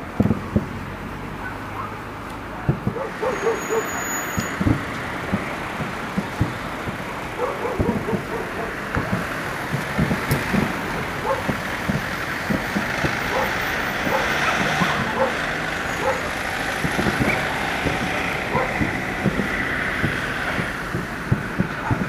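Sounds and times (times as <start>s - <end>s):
background noise: 0.0s - 22.0s
distant fireworks booming: 0.0s - 22.0s.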